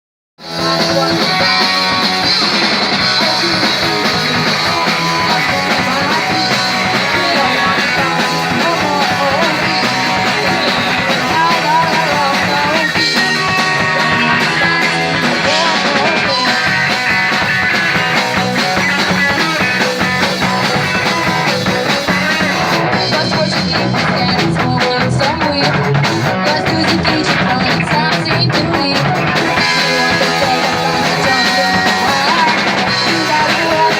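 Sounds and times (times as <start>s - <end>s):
fast drum beat: 0.4s - 33.9s
punk rock band playing live: 0.4s - 33.9s.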